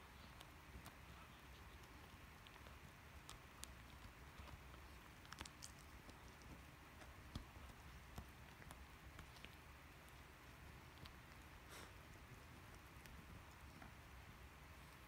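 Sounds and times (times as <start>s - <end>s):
low hiss: 0.0s - 15.0s
puppy gnawing a chew: 0.0s - 15.0s.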